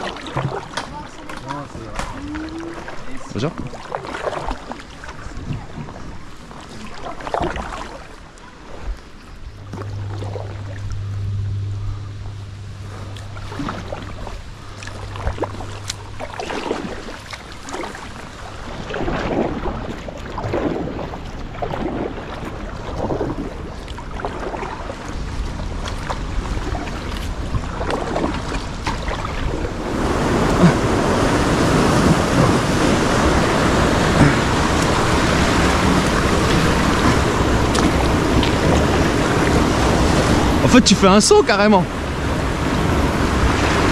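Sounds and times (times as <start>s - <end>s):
paddle strokes splashing water: 0.0s - 11.4s, 12.2s - 43.9s
low steady hum: 0.0s - 43.9s.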